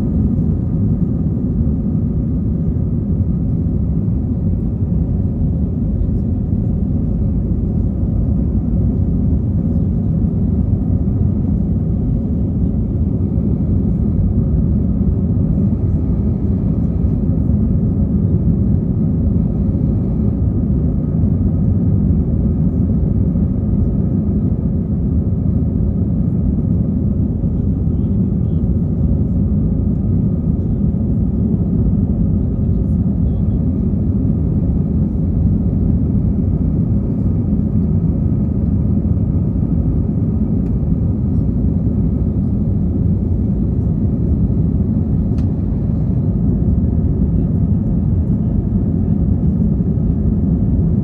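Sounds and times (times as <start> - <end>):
jet engine rumble inside cabin: 0.0 - 51.0.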